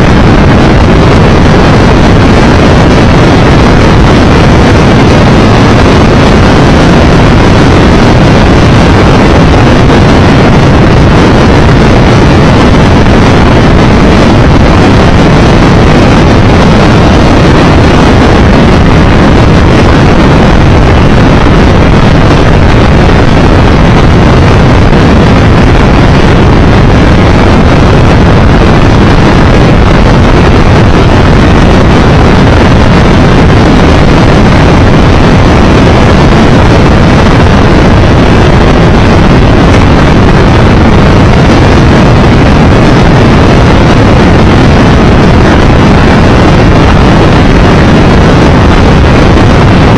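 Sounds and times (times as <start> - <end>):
wind rush on microphone: 0.0 - 49.9.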